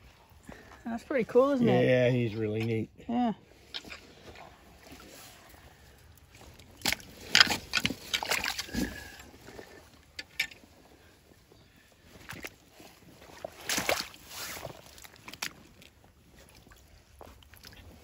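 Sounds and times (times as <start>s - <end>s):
water sloshing and splashing: 3.5s - 18.0s.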